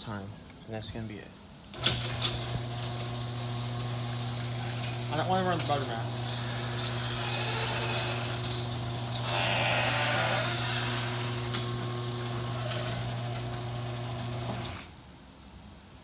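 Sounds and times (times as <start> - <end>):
garage door opener motor humming: 1.7 - 15.0.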